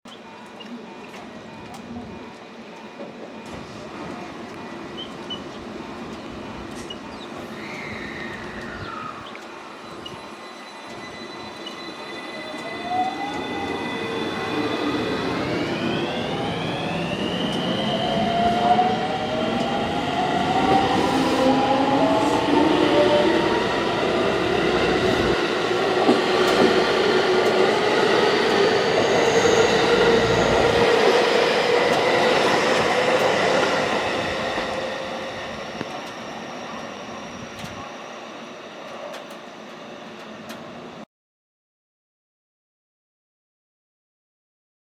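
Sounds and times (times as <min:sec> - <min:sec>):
train traction motors whining: 0:00.1 - 0:41.0.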